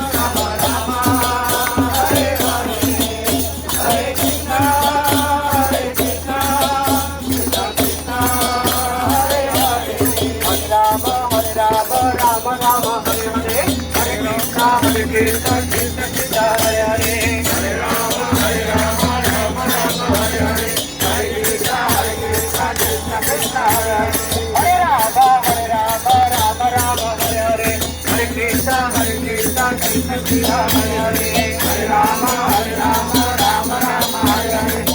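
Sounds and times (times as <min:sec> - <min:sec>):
jingling hand percussion: 0:00.0 - 0:34.9
voices singing a chant: 0:00.0 - 0:34.9.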